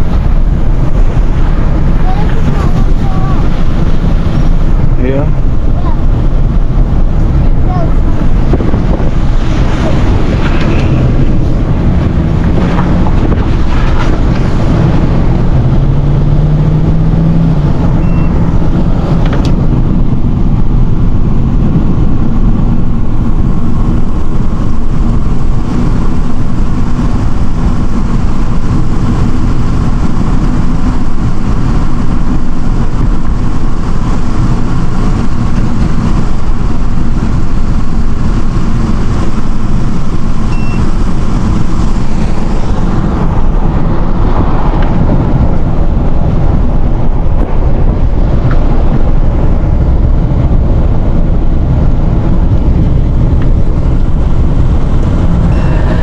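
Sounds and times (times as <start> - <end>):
vehicle engine and road noise: 0.0 - 56.0
wind buffeting microphone: 0.0 - 56.0.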